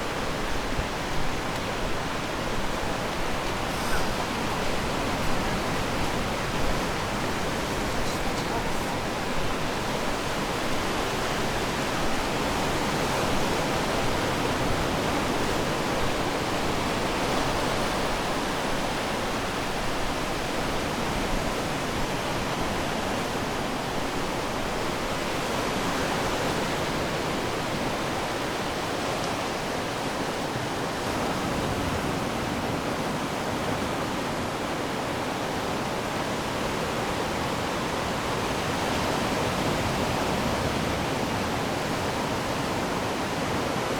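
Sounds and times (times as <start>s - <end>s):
ocean surf rushing: 0.0s - 43.9s.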